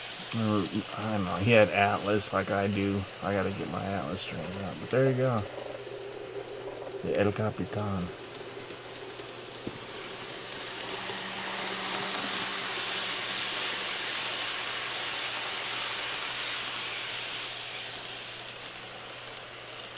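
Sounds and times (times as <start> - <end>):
model train wheels hissing on rail: 0.0 - 19.9
steady low hum: 0.0 - 19.9.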